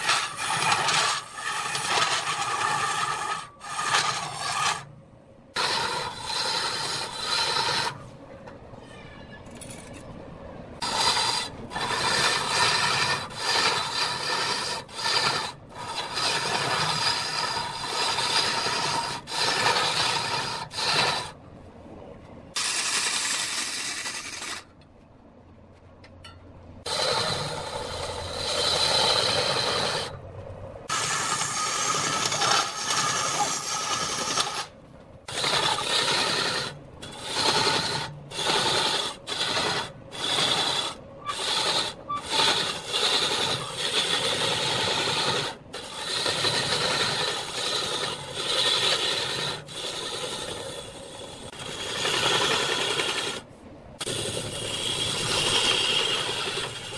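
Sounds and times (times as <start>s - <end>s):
lathe tool scraping wood: 0.0s - 4.9s, 5.6s - 8.1s, 10.8s - 21.4s, 22.6s - 24.7s, 26.9s - 30.2s, 30.8s - 56.9s.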